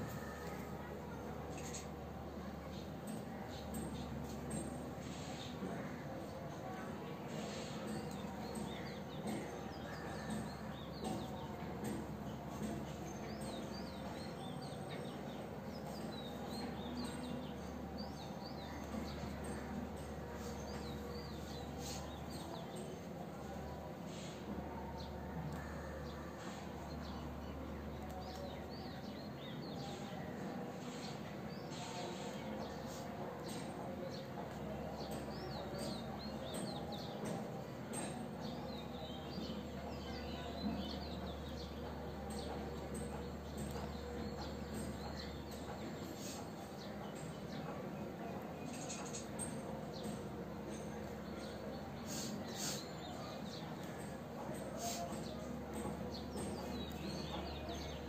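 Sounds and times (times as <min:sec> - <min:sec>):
small birds chirping: 0:07.3 - 0:58.0.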